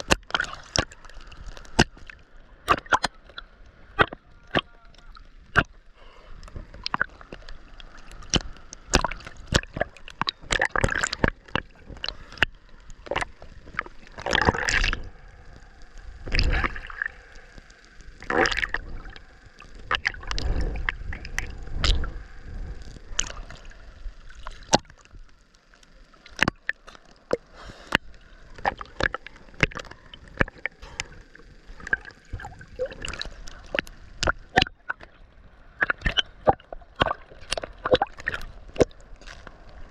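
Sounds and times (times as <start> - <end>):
sea water splashing: 0.0 - 39.9.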